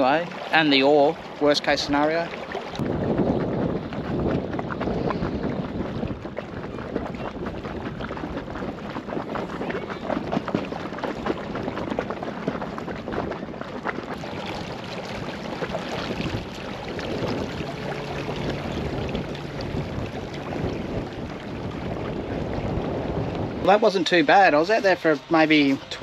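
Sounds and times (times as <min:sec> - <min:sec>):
water splashing against boat hull: 0:00.0 - 0:26.0
wind buffeting microphone: 0:00.0 - 0:26.0.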